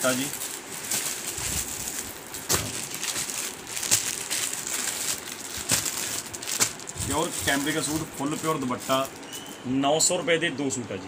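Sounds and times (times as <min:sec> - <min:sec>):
plastic packets crinkling: 0:00.0 - 0:09.6.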